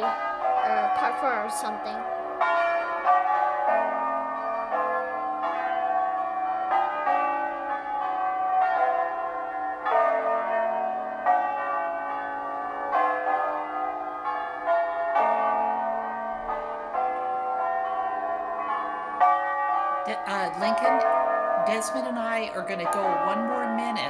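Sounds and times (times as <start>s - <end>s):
tower bells playing a tune: 0.0s - 24.0s.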